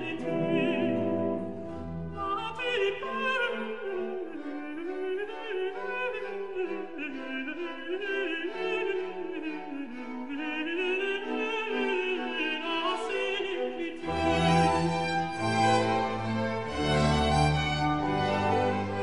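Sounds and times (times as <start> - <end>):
orchestral classical music: 0.0 - 19.0.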